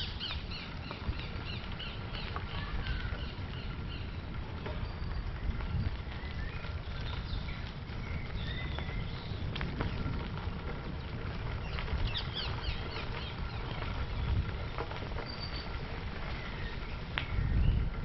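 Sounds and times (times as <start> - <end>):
bicycle tyres rolling on gravel: 0.0 - 18.0
birds chirping: 0.0 - 18.0.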